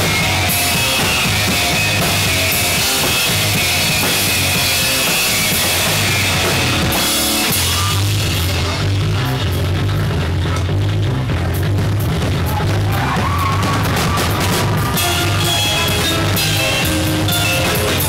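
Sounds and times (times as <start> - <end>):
electric guitars: 0.0 - 18.0
rock drum kit with cymbals: 0.0 - 18.0
steady low notes: 0.0 - 18.0.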